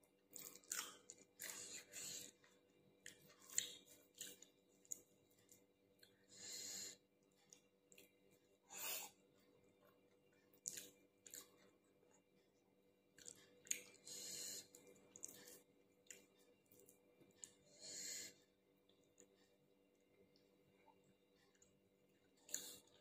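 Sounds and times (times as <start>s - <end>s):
person chewing food: 0.1s - 23.0s.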